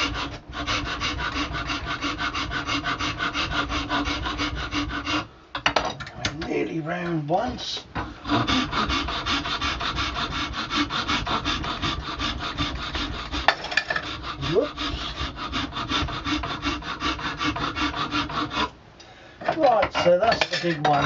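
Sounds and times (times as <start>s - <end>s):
hand file rasping: 0.0s - 5.3s, 8.2s - 18.8s, 19.5s - 21.0s.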